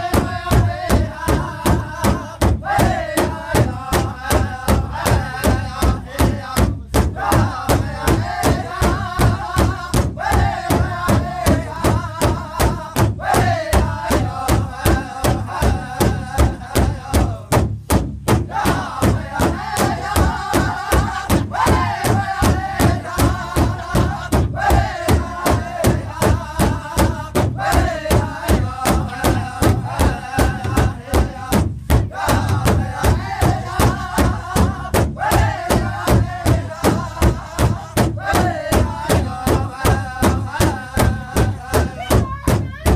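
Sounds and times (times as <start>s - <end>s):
group singing in chorus: 0.0s - 17.7s, 18.3s - 42.2s
hand drum steady beat: 0.0s - 42.9s.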